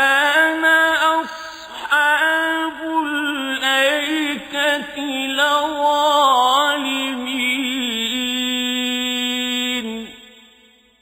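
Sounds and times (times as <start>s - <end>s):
man reciting melodically: 0.0s - 10.7s.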